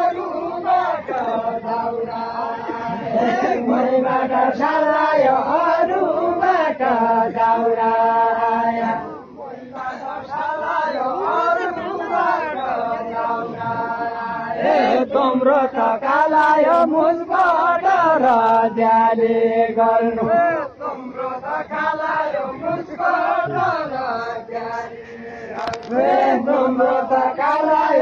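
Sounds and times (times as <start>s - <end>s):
group of men chanting: 0.0s - 28.0s.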